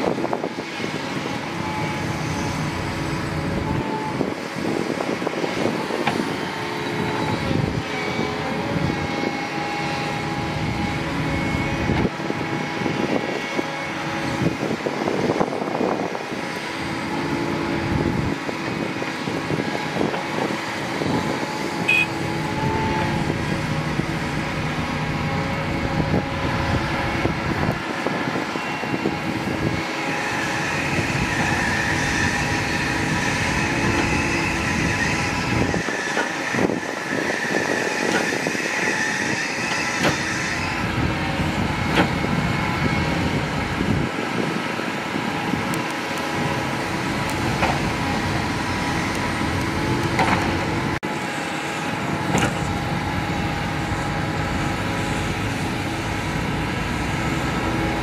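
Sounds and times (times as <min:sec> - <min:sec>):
excavator diesel engine: 0:00.0 - 0:58.0
hydraulic whine: 0:00.0 - 0:58.0.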